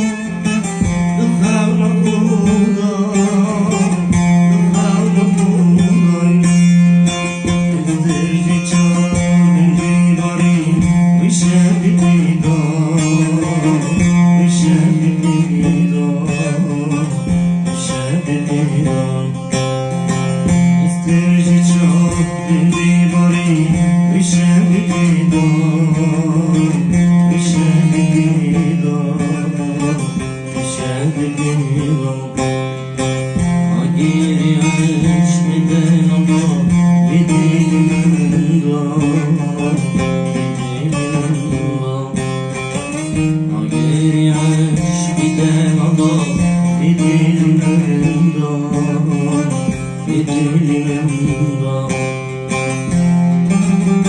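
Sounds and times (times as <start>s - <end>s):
plucked string melody: 0.0s - 54.0s.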